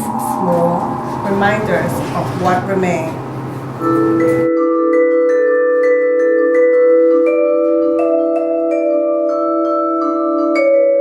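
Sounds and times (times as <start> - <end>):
mallet percussion melody: 0.0 - 11.0.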